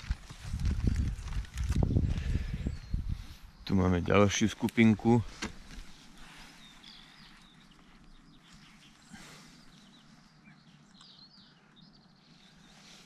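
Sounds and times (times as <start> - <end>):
faint songbird chirps: 0.3 - 13.0.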